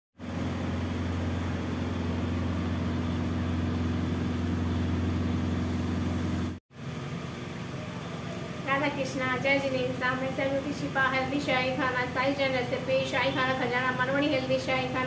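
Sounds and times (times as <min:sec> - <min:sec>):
faint hum: 0:00.2 - 0:15.0
machine hum: 0:00.2 - 0:15.0.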